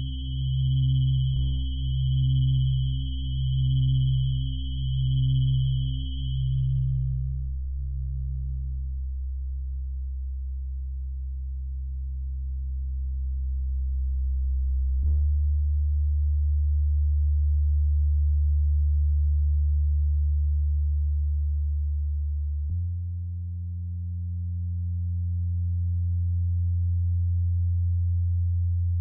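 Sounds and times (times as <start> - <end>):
low electronic drone of pure tones: 0.0 - 29.0.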